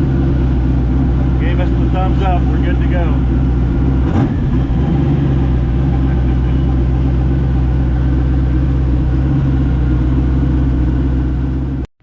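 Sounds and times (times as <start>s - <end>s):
boat engine droning at low speed: 0.0s - 11.8s.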